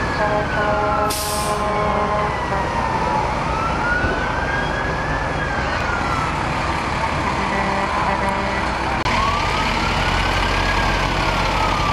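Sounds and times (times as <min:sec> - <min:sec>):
emergency vehicle siren wailing: 0:00.0 - 0:11.9.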